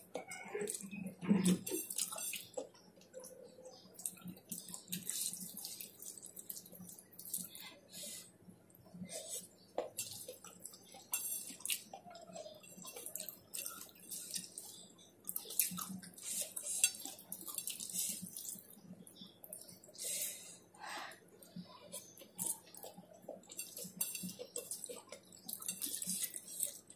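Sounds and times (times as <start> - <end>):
wet chewing and lip-smacking: 0.0 - 7.7, 9.2 - 20.0, 21.4 - 26.9.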